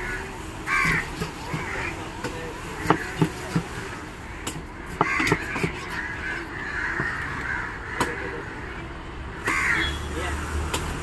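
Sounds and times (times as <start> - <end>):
harsh bird calls: 0.0 - 10.2.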